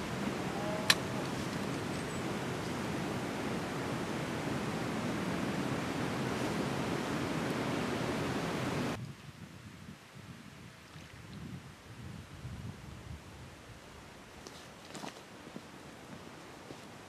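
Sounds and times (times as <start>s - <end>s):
strong wind blowing: 0.0s - 13.9s.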